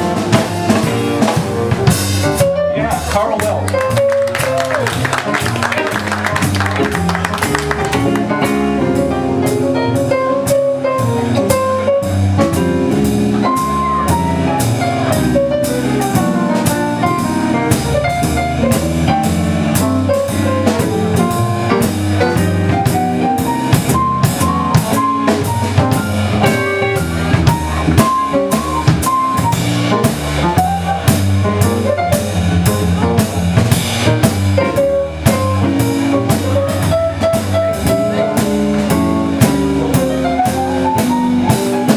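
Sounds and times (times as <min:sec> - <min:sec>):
band playing: 0:00.0 - 0:41.9
drum kit beat: 0:00.0 - 0:41.9.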